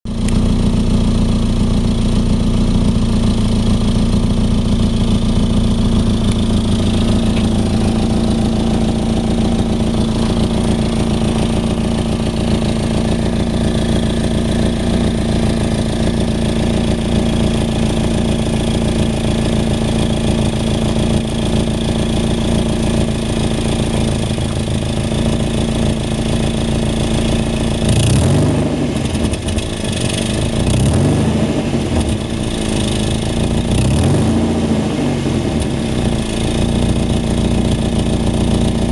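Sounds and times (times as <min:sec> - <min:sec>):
car engine idling and revving: 0:00.1 - 0:38.9.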